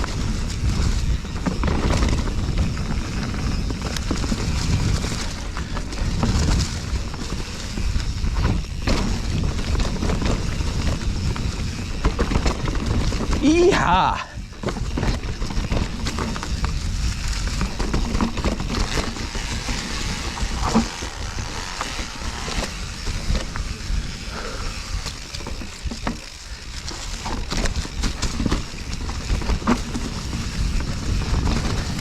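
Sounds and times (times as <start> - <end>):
bike chain and frame rattling: 0.0 - 32.0
tyres crunching on gravel: 0.0 - 32.0
wind rumble on microphone: 0.0 - 32.0.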